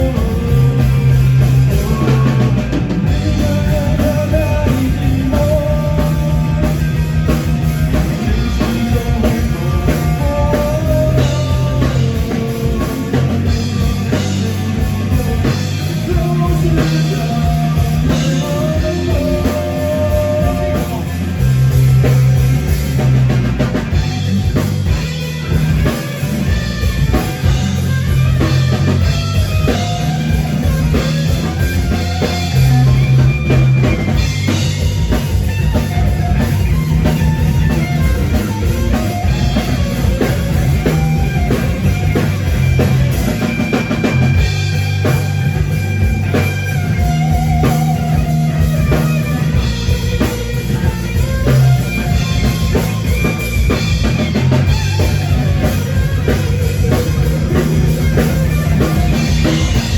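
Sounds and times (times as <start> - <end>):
drum kit beat: 0.0 - 59.9
rock band playing live: 0.0 - 59.9.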